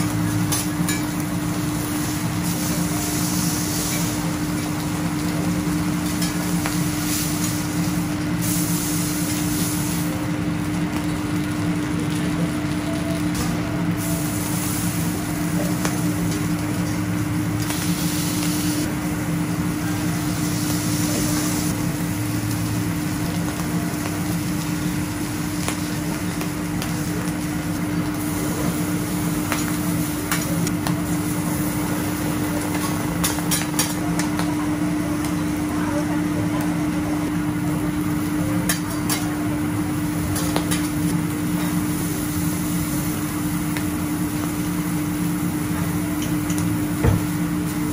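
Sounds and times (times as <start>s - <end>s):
mechanical hum: 0.0s - 47.9s
seafood sizzling on a griddle: 0.0s - 47.9s.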